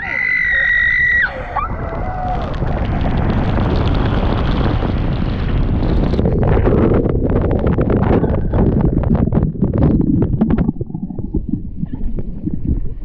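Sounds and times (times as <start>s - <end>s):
water rushing down a slide: 0.0s - 13.0s
wind buffeting microphone: 0.0s - 13.0s.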